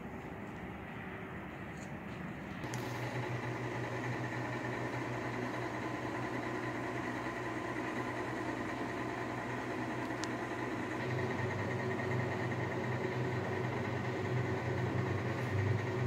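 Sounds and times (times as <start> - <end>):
machine humming: 2.5 - 16.0.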